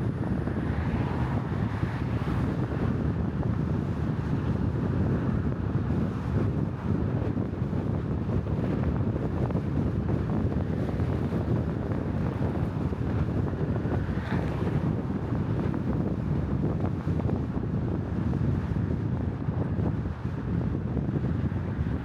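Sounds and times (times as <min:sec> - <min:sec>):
low rumble of travel: 0:00.0 - 0:22.0
wind buffeting microphone: 0:00.0 - 0:22.0.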